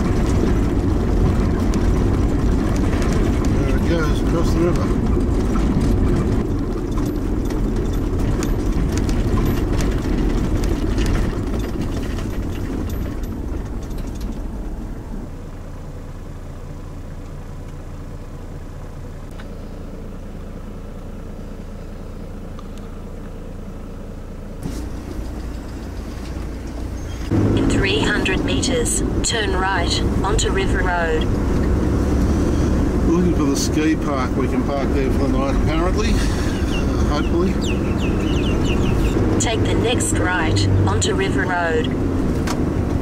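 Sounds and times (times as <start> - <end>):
vehicle engine and tyre noise: 0.0 - 43.0.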